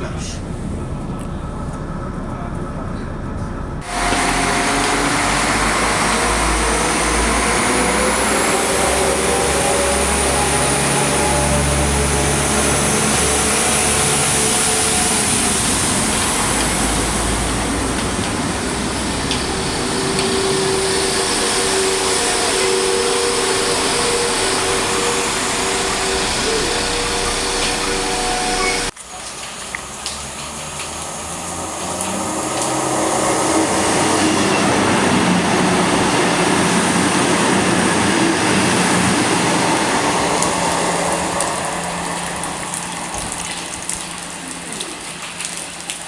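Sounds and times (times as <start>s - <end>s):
high whine: 0.0s - 29.0s, 31.6s - 44.8s
vehicle running loudly: 0.0s - 29.0s, 30.0s - 44.5s.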